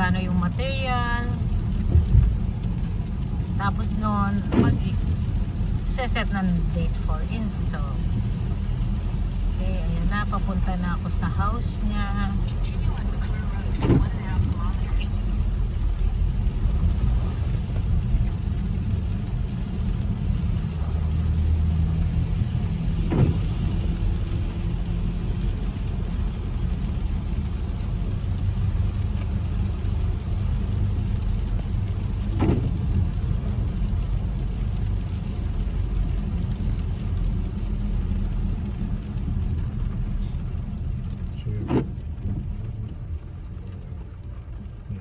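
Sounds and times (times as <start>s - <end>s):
car engine and road rumble: 0.0s - 45.0s.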